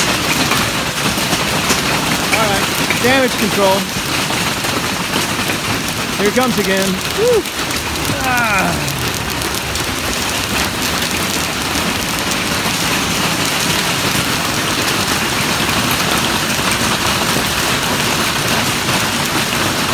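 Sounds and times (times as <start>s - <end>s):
hail on metal roof: 0.0s - 19.9s
rain: 0.0s - 19.9s.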